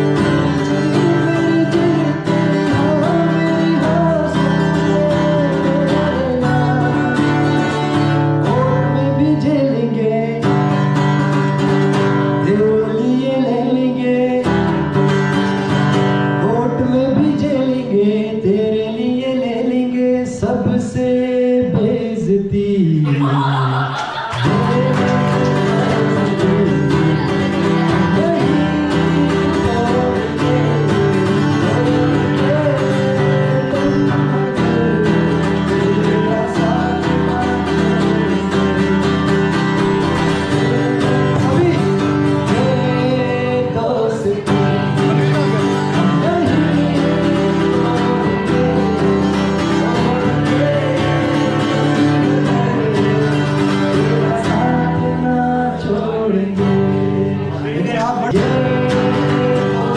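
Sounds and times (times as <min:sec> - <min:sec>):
guitar accompaniment: 0:00.0 - 0:59.9
person singing: 0:00.0 - 0:59.9.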